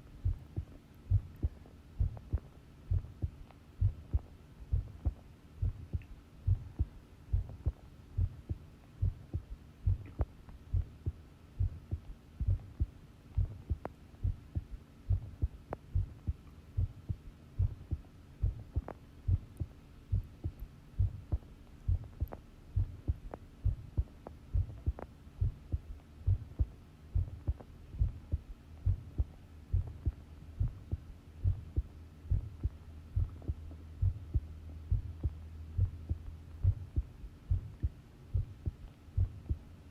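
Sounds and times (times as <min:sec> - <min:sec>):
low hum: 0:00.0 - 0:39.9
heartbeat thumps: 0:00.2 - 0:39.6.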